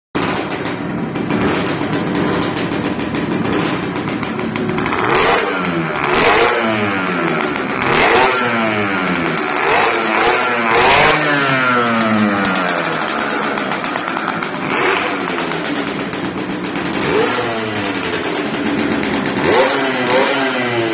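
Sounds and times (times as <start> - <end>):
moped engine idling and revving: 0.2 - 20.9.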